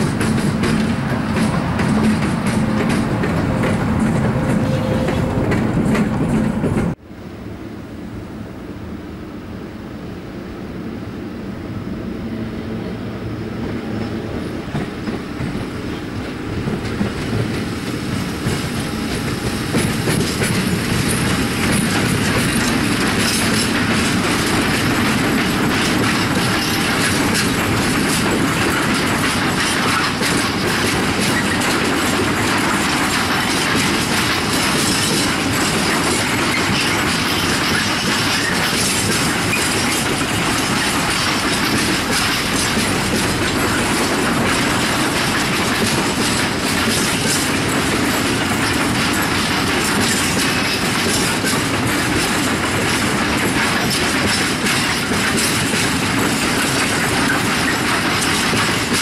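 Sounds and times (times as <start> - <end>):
freight train wheels clattering: 0.0 - 7.0, 13.4 - 59.0.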